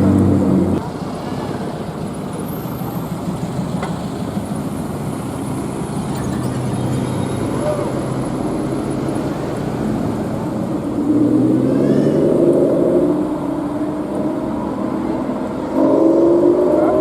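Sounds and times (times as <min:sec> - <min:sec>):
sports car engine: 0:00.0 - 0:06.9, 0:07.6 - 0:17.0
street traffic: 0:00.0 - 0:17.0.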